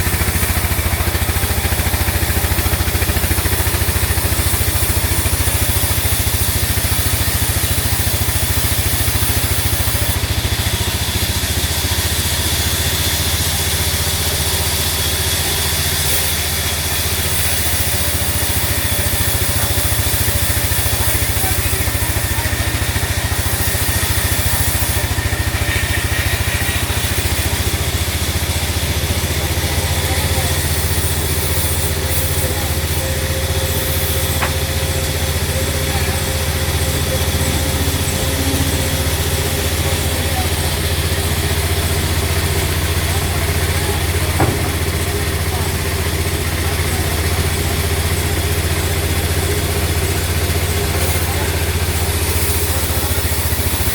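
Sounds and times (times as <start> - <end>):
sawmill machinery hum and hiss: 0.0 - 53.9.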